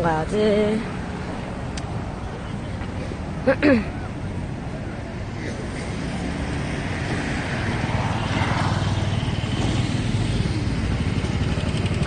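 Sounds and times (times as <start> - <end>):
street traffic rumble: 0.0 - 12.0
vehicle passing close: 0.8 - 12.0.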